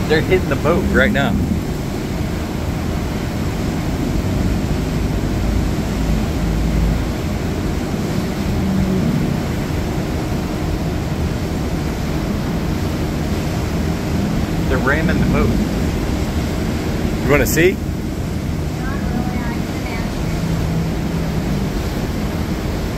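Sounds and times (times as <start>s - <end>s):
churning wake water: 0.0s - 22.9s
low rumble: 0.0s - 22.9s
small boat engine drone: 0.0s - 22.9s
wind rushing: 0.0s - 22.9s.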